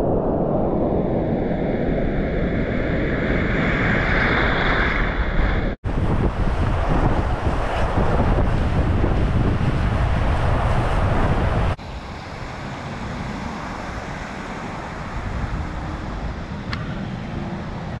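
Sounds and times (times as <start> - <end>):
wind buffeting microphone: 0.0 - 18.0
rushing surf: 3.5 - 18.0.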